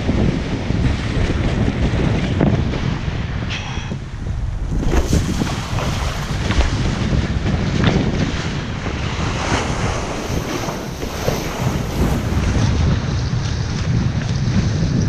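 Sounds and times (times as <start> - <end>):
sea water rushing and splashing: 0.0 - 14.7
wind buffeting microphone: 0.0 - 15.0.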